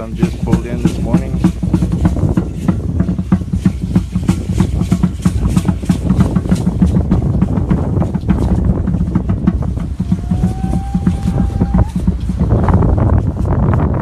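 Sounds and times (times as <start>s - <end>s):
rapid drum beats: 0.0s - 14.0s
wind rumbling on microphone: 0.0s - 14.0s.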